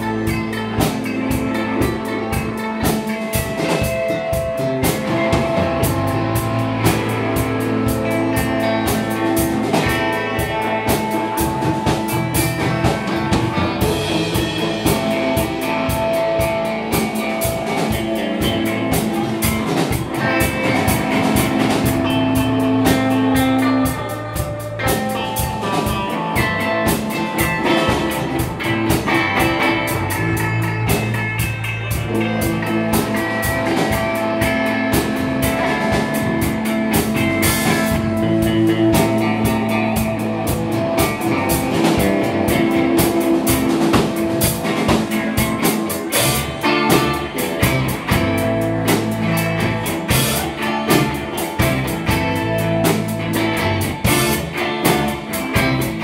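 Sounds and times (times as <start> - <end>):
drum kit beat: 0.0 - 56.0
electric guitar playing: 0.0 - 56.0.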